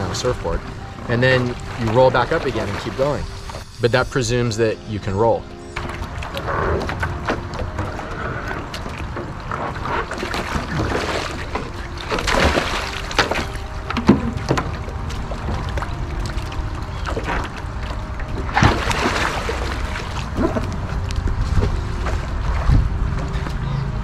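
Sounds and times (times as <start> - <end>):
low rumble: 0.0 - 24.0
rush of water: 0.0 - 24.0
water sloshing and splashing: 0.0 - 24.0.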